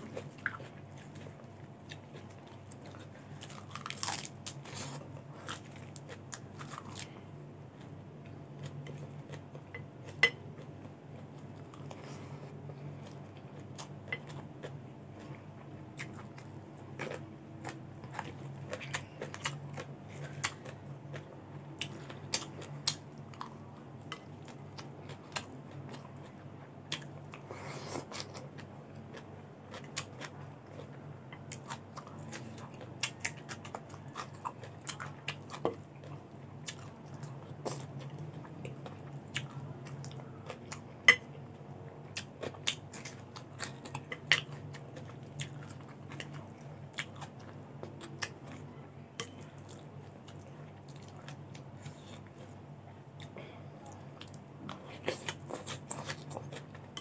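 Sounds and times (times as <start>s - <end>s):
chewing and crunching vegetables: 0.0s - 57.0s
low steady hum: 0.0s - 57.0s.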